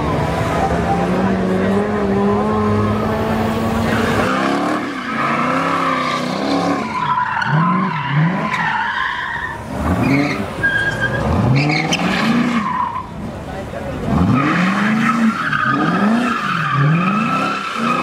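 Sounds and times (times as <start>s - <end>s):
car engine revving: 0.0s - 18.0s
tyres squealing on asphalt: 0.0s - 18.0s.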